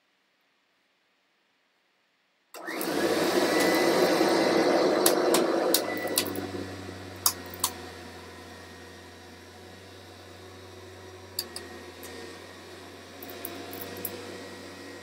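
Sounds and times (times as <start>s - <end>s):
vacuum cleaner motor humming: 2.6s - 15.0s.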